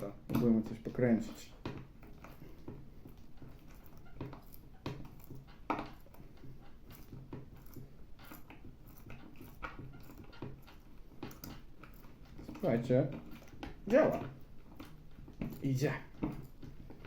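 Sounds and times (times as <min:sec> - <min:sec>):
screw scraping creaks: 0:00.0 - 0:17.0.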